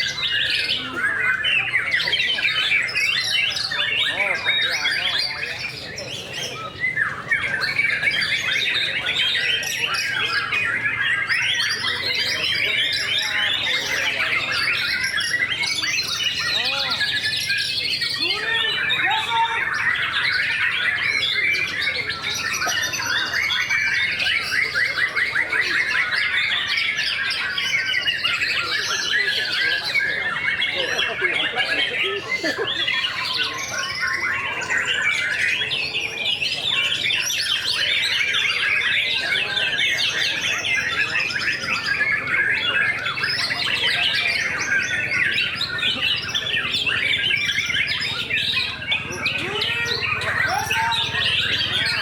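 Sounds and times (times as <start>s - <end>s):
harsh bird chattering calls: 0.0s - 52.0s
songbirds whistling and trilling: 0.0s - 52.0s.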